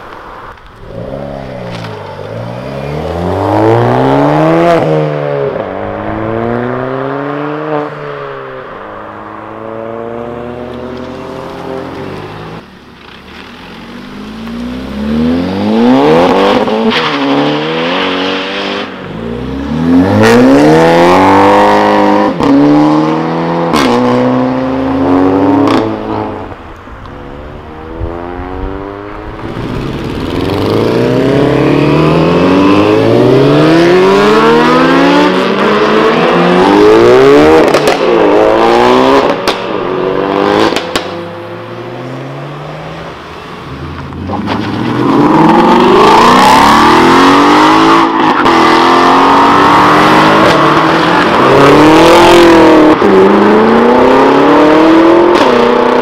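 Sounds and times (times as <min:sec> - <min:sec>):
car engines revving hard: 0:00.8 - 0:26.6, 0:27.3 - 0:56.0.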